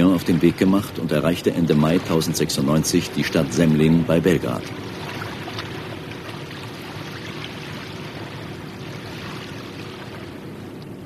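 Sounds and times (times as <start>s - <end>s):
faint steady hum: 0.0s - 11.0s
flowing water rushing: 0.0s - 11.0s.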